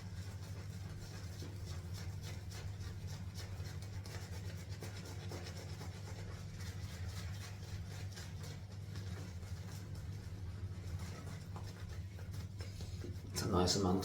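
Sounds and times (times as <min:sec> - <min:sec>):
shaving brush rubbing lather: 0:00.0 - 0:14.0.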